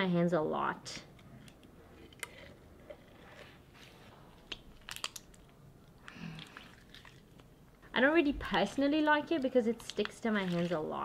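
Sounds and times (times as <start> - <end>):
slime squelching with wet crackles: 1.6 - 11.0.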